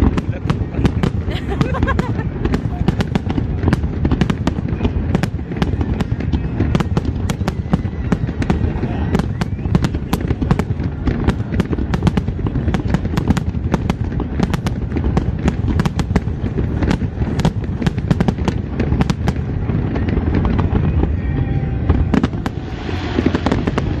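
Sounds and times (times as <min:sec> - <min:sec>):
fireworks bangs and crackles: 0:00.0 - 0:24.0
low rumble of booms: 0:00.0 - 0:24.0.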